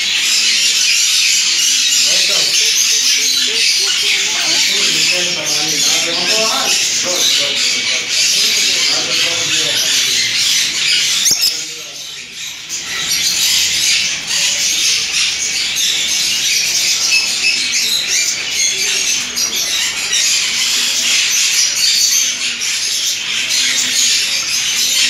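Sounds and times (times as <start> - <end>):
budgerigars chattering and squawking: 0.0 - 25.0.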